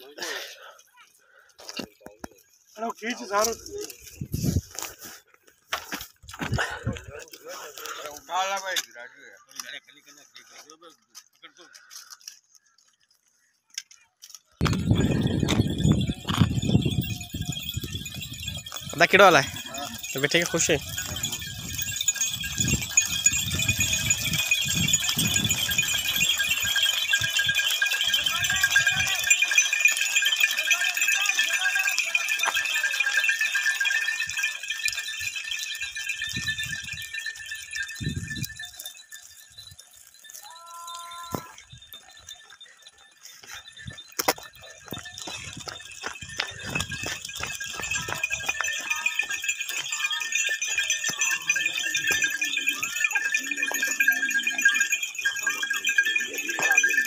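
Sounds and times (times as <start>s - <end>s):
goat bells jingling: 0.0s - 57.0s
hooves clicking on the road: 1.6s - 57.0s.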